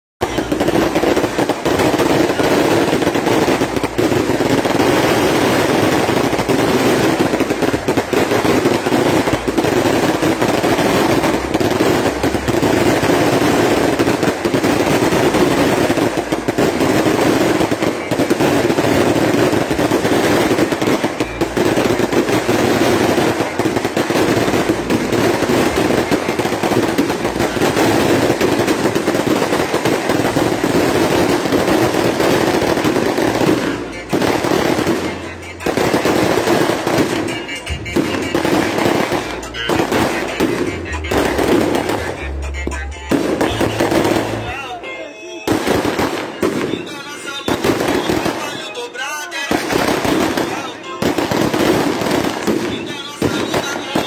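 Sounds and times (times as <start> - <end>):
fireworks popping and crackling: 0.2 - 54.0.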